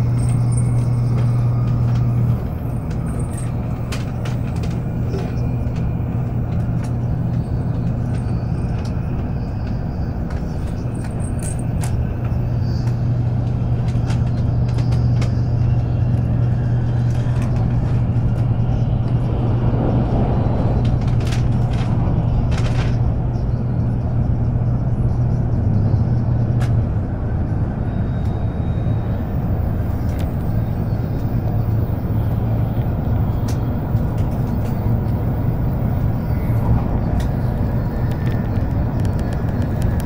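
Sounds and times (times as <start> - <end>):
constant hum: 0.0 - 40.0
train cabin rumble: 0.0 - 40.0.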